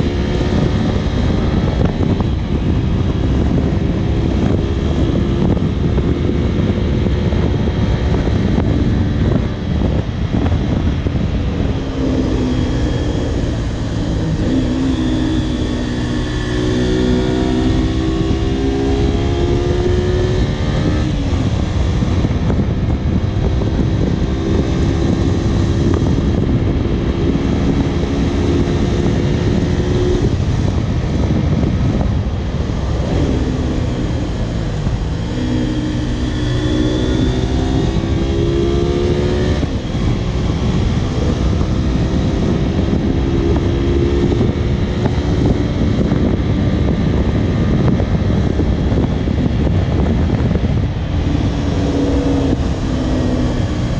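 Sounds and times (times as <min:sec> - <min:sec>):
motorcycle engine at riding speed: 0:00.0 - 0:53.9
wind rushing: 0:00.0 - 0:53.9.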